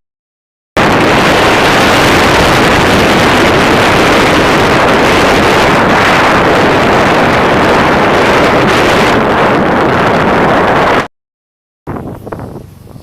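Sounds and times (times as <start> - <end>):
wind rushing over microphone: 0.8 - 11.1, 11.9 - 13.0.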